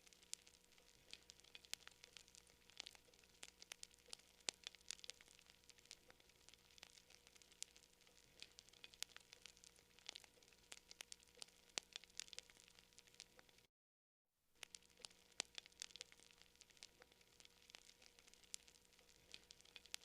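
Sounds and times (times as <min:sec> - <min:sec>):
campfire crackling: 0:00.0 - 0:13.7, 0:14.6 - 0:20.0.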